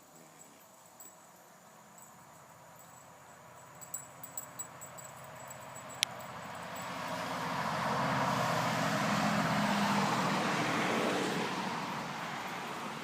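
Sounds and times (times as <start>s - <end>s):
road vehicle passing by: 2.2s - 13.0s.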